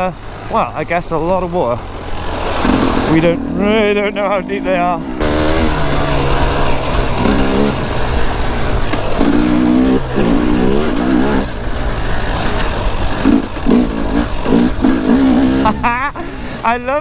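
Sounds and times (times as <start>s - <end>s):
dirt bike engine revving: 1.8s - 16.4s.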